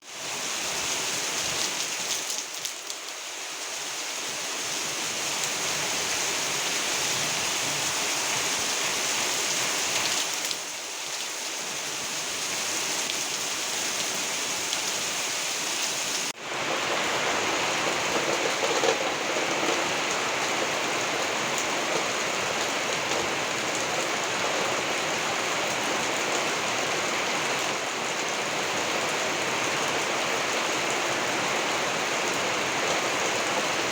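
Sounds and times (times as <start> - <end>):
rain falling steadily: 0.0 - 33.9.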